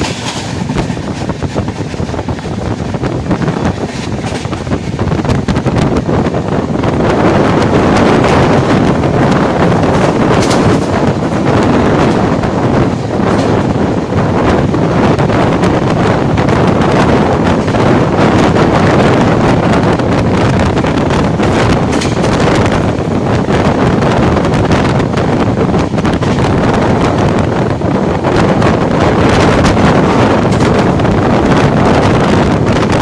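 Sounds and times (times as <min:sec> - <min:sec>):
train wheels rumbling on rails: 0:00.0 - 0:33.0
wind buffeting microphone: 0:00.0 - 0:33.0.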